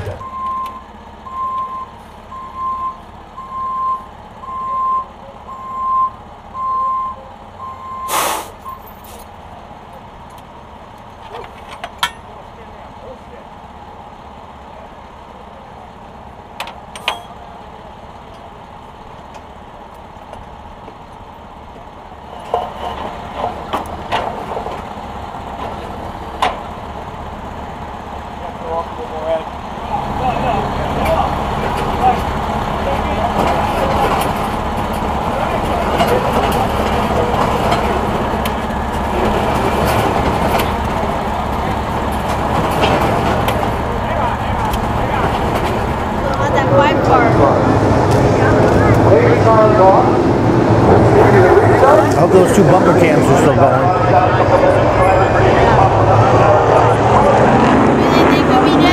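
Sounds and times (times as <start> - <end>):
stock car engines droning: 0.0 - 58.9.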